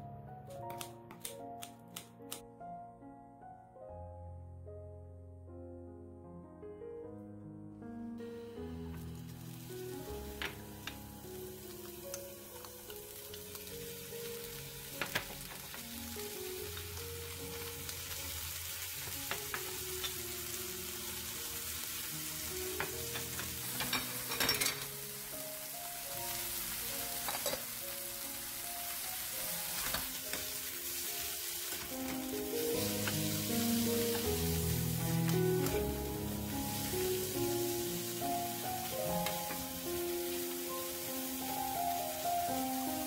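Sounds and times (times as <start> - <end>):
soft background music: 0.0 - 43.0
vegetables sizzling in a pan: 8.3 - 43.0.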